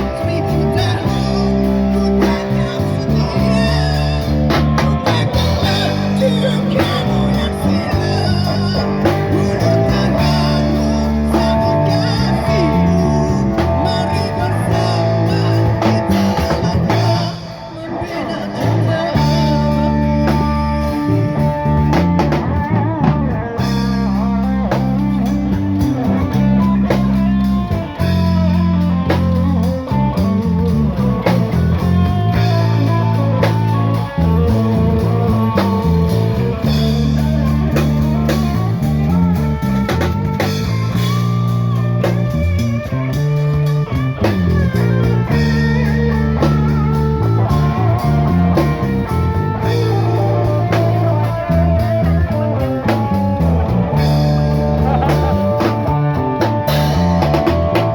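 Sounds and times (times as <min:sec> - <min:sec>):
drum kit beats: 0:00.0 - 0:57.9
guitar: 0:00.0 - 0:57.9
sustained bass notes: 0:00.0 - 0:57.9.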